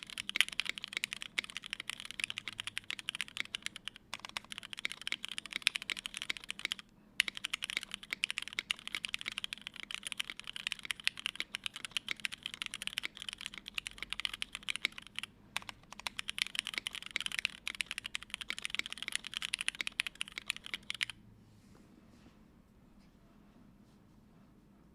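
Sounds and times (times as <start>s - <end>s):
mechanical keyboard typing: 0.0s - 21.2s.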